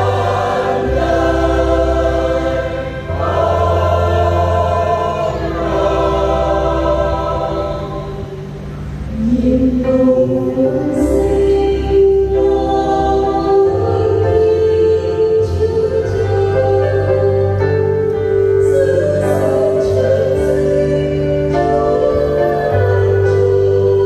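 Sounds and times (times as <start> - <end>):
choir singing a hymn: 0.0 - 24.0.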